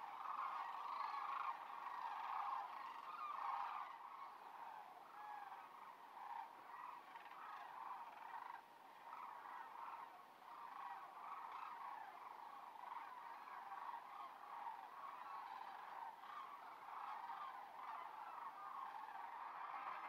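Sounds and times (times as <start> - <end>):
flock of cranes calling: 0.0 - 20.0.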